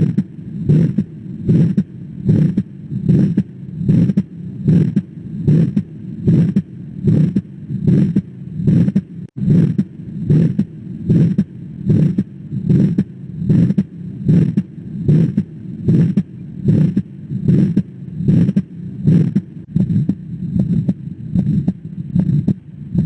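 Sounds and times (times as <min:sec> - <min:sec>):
heartbeat thumps: 0:00.0 - 0:23.0.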